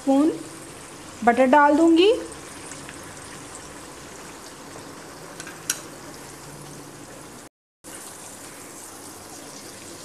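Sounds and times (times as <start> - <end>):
onion paste sizzling in oil: 0.0 - 10.0.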